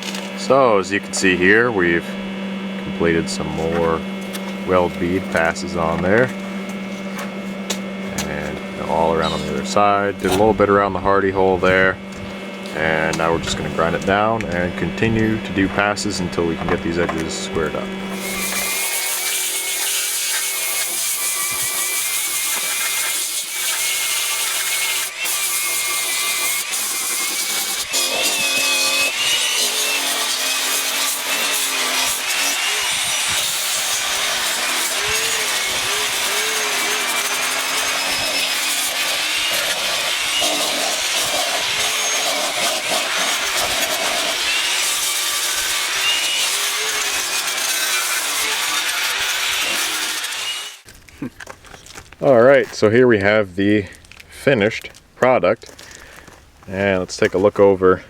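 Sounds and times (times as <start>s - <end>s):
power grinder grinding steel: 0.0s - 50.9s.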